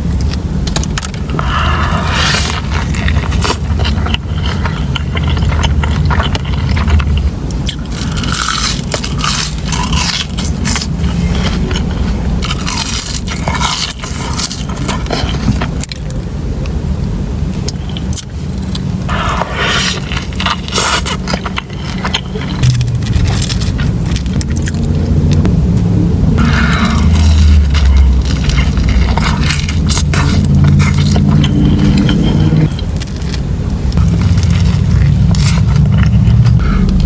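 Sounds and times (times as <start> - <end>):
biting and chewing food: 0.0 - 16.3, 17.5 - 25.6, 26.4 - 37.0
low rumble: 0.0 - 37.0.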